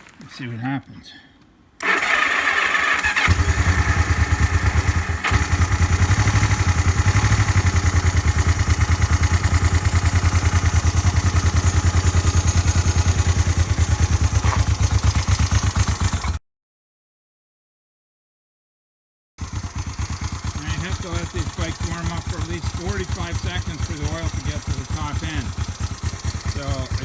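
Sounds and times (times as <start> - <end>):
motorcycle engine starting and idling: 1.8 - 16.4, 19.4 - 27.0.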